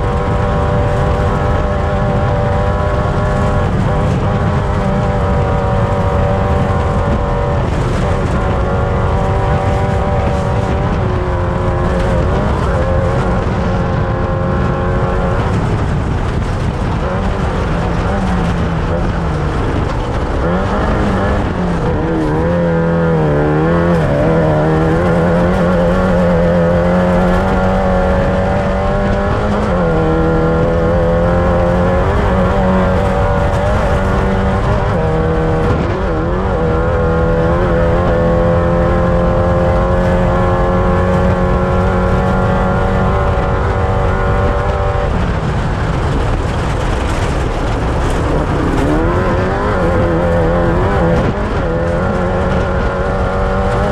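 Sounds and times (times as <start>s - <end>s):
engine running hard: 0.0s - 53.9s
wind and terrain rumble: 0.0s - 53.9s.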